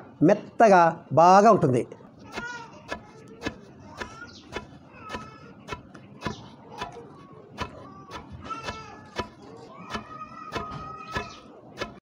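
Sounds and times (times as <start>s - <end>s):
pestle pounding grain in mortar: 2.2s - 12.0s.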